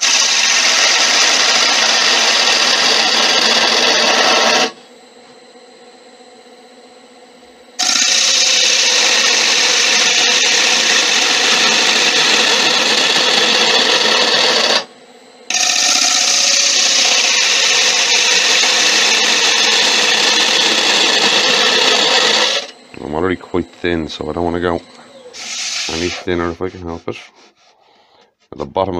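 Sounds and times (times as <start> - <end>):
lathe gouge cutting wood: 0.0 - 4.8, 7.8 - 14.9, 15.5 - 27.7.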